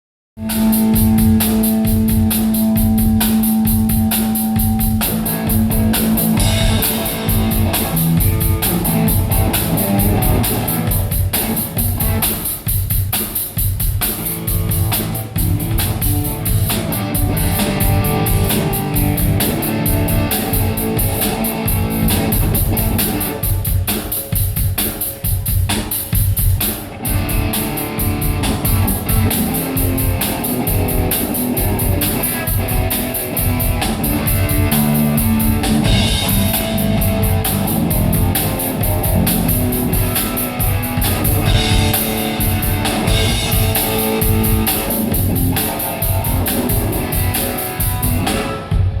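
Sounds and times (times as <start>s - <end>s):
electric guitar: 0.4s - 24.2s, 24.8s - 49.0s
drum kit beat: 0.4s - 49.0s.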